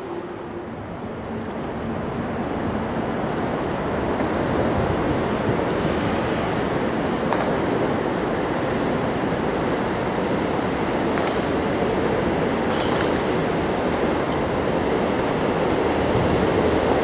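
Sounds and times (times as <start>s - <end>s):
diesel railcar rumbling: 0.0s - 17.0s.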